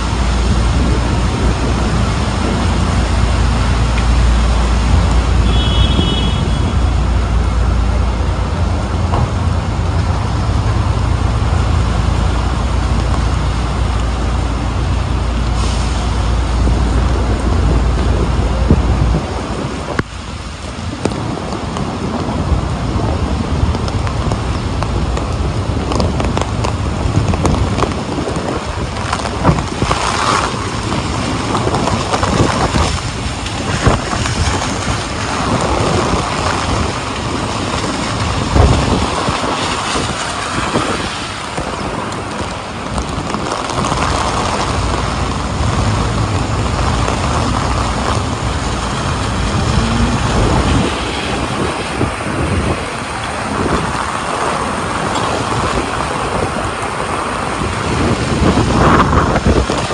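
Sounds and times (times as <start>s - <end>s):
rain and tyres hissing: 0.0s - 59.9s
vehicle engine rumble: 0.0s - 59.9s.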